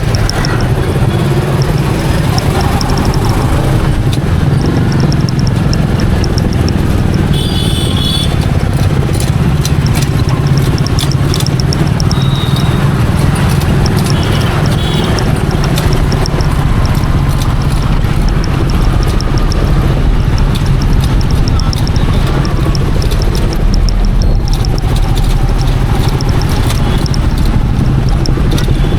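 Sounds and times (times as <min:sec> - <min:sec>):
motorcycle engine rumble: 0:00.0 - 0:28.9
wind and road noise: 0:00.0 - 0:28.9.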